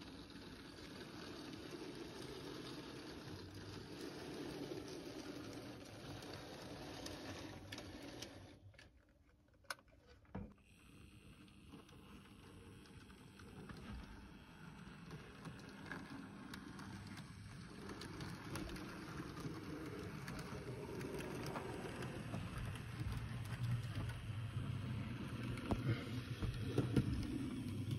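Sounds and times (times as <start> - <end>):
model train motor whirring: 0.0 - 8.7, 10.6 - 27.9.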